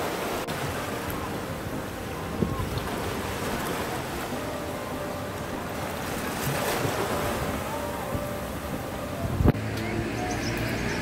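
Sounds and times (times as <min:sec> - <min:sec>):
small waves breaking on beach: 0:00.0 - 0:09.2
wind buffeting microphone: 0:00.0 - 0:11.0.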